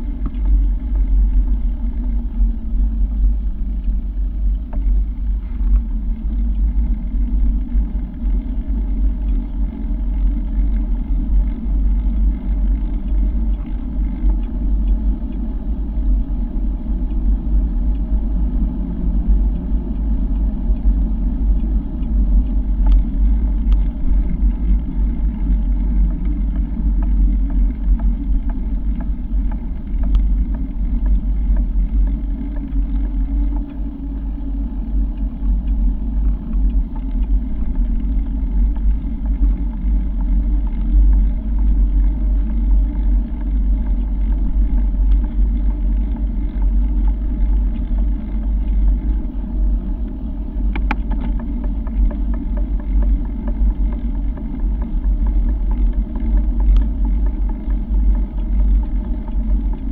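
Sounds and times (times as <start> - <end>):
light clicks from bumps: 0.0 - 59.9
wind buffeting microphone: 0.0 - 59.9.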